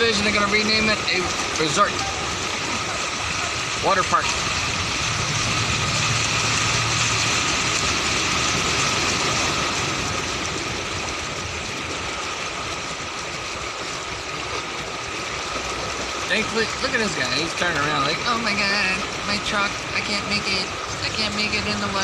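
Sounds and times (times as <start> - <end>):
car engine hum: 0.0 - 22.0
tyre and road noise: 0.0 - 22.0.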